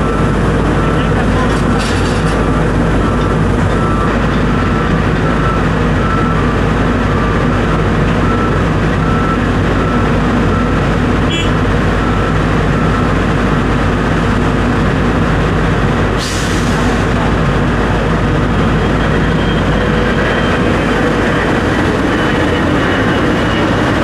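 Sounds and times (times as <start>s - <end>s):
vehicle engine running loudly: 0.0s - 24.0s.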